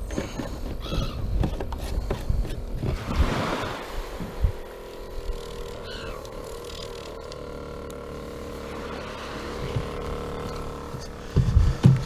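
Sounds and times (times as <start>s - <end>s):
motor running: 0.1s - 12.0s.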